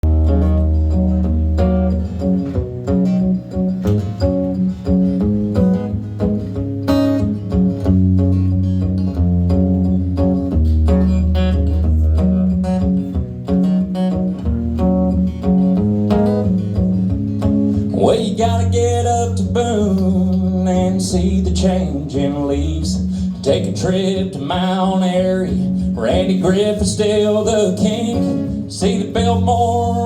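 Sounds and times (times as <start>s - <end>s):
acoustic guitar strumming: 0.0s - 30.0s
bass line: 0.0s - 30.0s.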